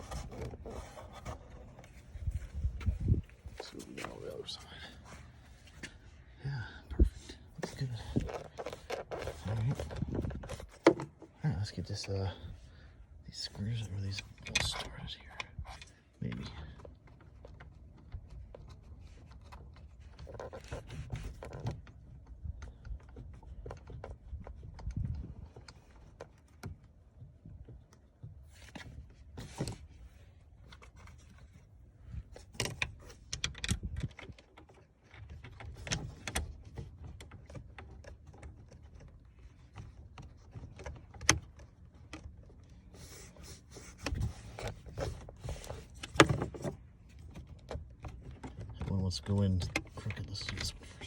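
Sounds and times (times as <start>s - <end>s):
rustling and handling rumble: 0.0s - 51.0s.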